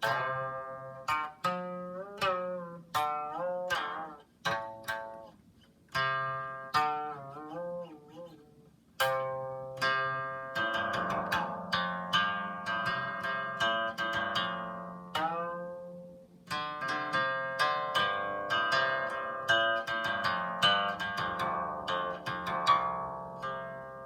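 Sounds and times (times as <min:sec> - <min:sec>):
zither plucked notes: 0:00.0 - 0:24.0.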